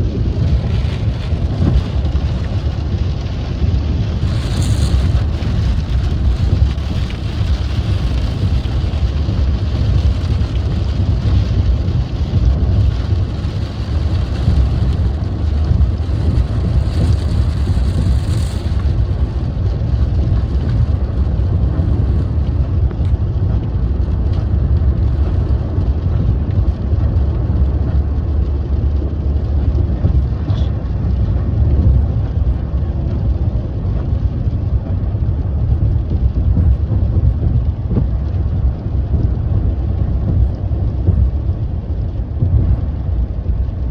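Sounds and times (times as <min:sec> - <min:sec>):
car road and engine rumble: 0:00.0 - 0:43.9
rain and tyre spray hiss: 0:00.0 - 0:43.9.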